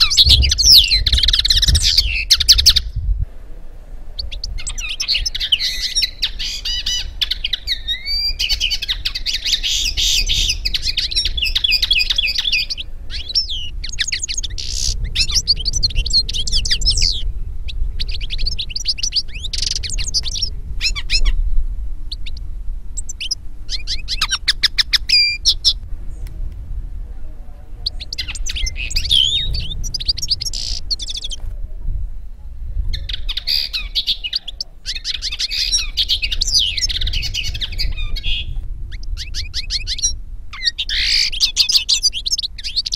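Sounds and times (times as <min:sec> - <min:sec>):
birds twittering and trilling: 0:00.0 - 0:26.4, 0:27.1 - 0:42.9.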